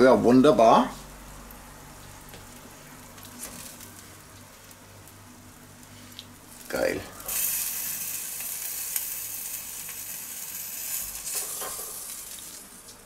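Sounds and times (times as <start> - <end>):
meat sizzling on a grill: 1.9 - 13.0.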